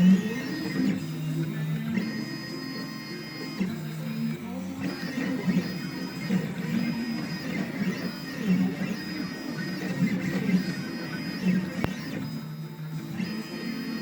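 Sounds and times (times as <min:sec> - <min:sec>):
stepper motors buzzing: 0:00.0 - 0:14.0.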